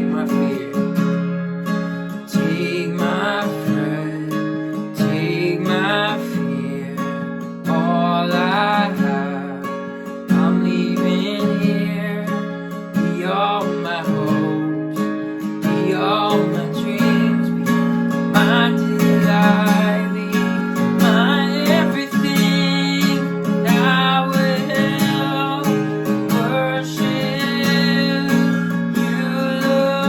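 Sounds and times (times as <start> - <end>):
person singing: 0.0 - 1.0, 2.3 - 30.0
strummed acoustic guitar: 0.0 - 30.0.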